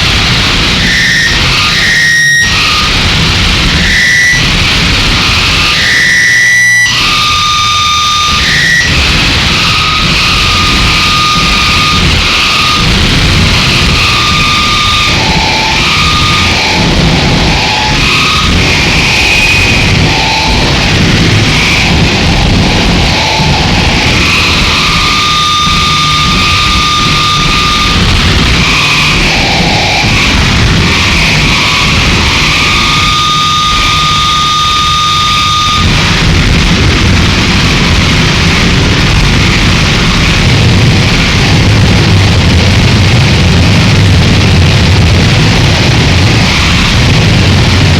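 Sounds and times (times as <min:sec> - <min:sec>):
shrill feedback tones: 0:00.0 - 0:42.1
distorted electronic noise: 0:00.0 - 0:47.9.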